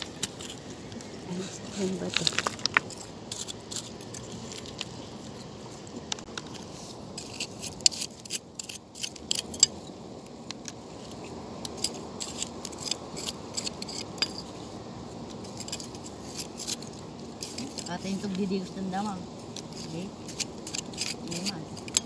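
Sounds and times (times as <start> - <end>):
pebbles clicking and scraping: 0.0 - 14.6, 15.2 - 22.0.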